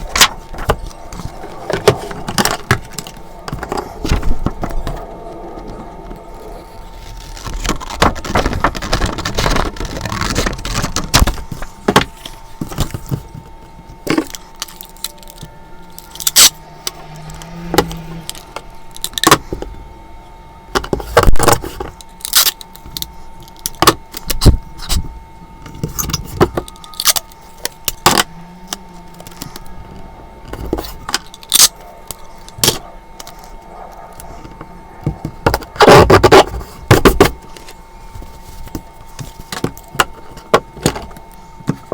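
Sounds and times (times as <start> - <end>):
faint steady whine: 0.0 - 41.9.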